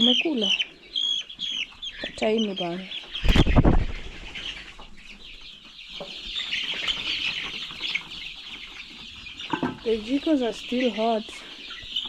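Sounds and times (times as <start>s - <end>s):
chicks cheeping: 0.0s - 12.0s.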